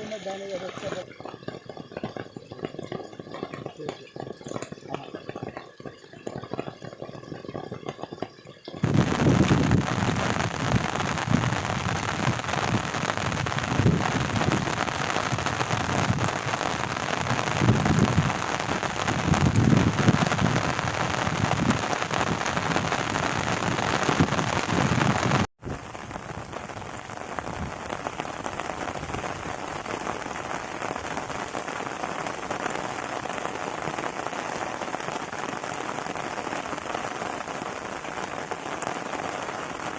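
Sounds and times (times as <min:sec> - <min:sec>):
heavy rain pouring: 0:00.0 - 0:08.0, 0:08.8 - 0:39.9
light steady rain: 0:00.0 - 0:39.9.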